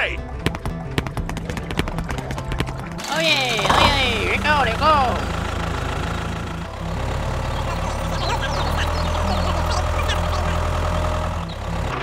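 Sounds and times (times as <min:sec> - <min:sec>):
tractor engine rumbling: 0:00.4 - 0:12.0.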